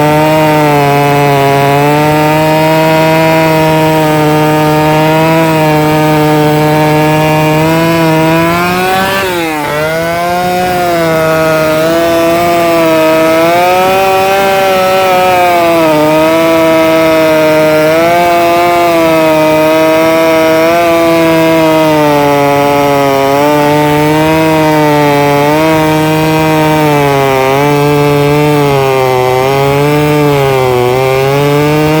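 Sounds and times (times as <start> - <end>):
chainsaw engine running: 0.0 - 32.0.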